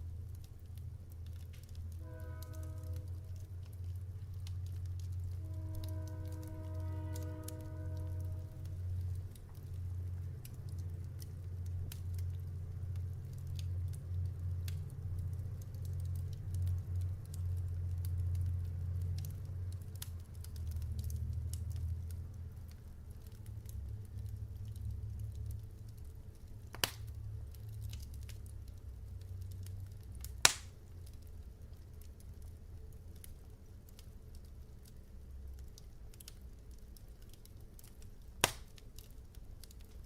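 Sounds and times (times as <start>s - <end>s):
fire crackling: 0.0s - 40.0s
sharp fire pops: 0.3s - 34.4s, 37.2s - 40.0s.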